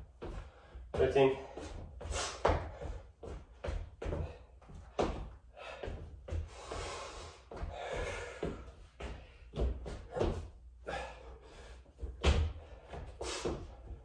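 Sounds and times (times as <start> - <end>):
thumps of hands and feet on floor: 0.0 - 10.6, 11.9 - 14.0
hard breathing: 0.2 - 14.0.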